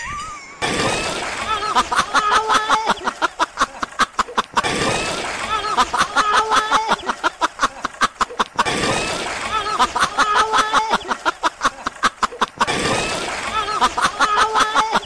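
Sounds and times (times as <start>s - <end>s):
high-pitched laughter: 0.0s - 15.0s.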